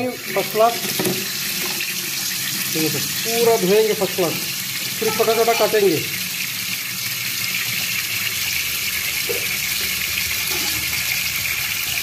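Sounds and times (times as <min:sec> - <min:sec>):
tap water running into bowl: 0:00.0 - 0:12.0.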